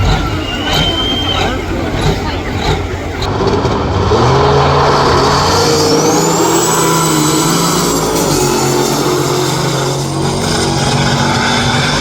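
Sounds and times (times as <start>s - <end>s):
vehicle engine accelerating with whine: 0.0s - 12.0s.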